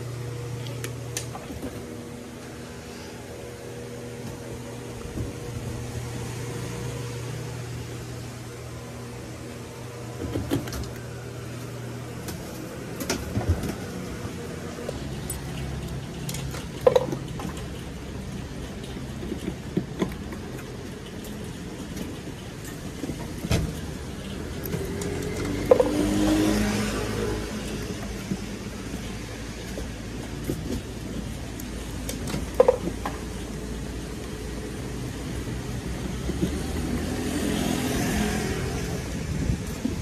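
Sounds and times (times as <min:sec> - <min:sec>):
claw machine mechanical hum: 0:00.0 - 0:40.0
motor noise: 0:00.0 - 0:40.0.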